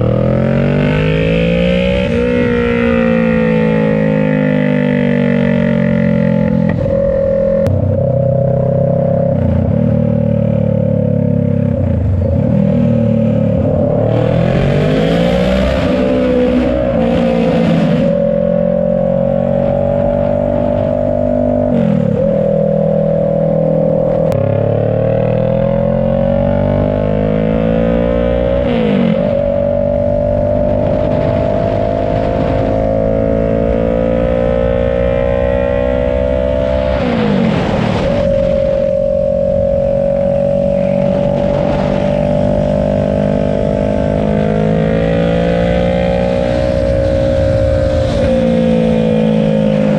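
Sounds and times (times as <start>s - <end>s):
motorcycle engine revving loudly: 0.0s - 49.9s.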